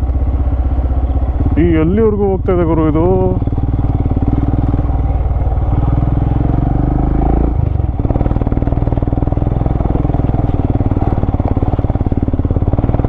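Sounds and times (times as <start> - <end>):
vehicle engine under load: 0.0 - 13.0.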